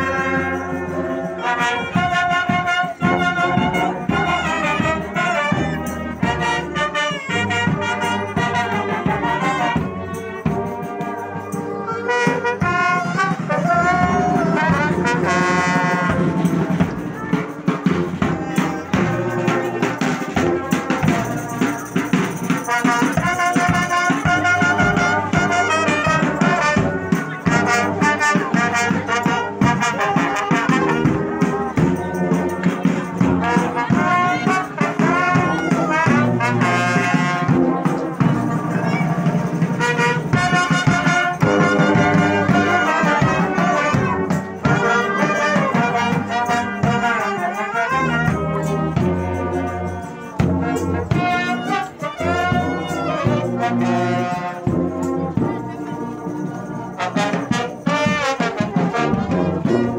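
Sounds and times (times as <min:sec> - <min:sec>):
marching brass band playing: 0:00.0 - 0:59.9.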